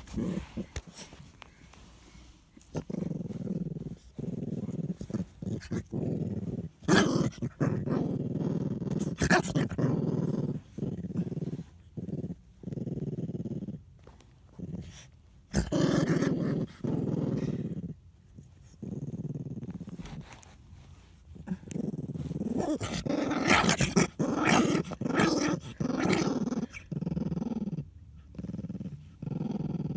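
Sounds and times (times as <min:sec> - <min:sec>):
dog growling: 0:00.0 - 0:01.2, 0:02.6 - 0:13.8, 0:14.5 - 0:20.1, 0:21.4 - 0:29.9.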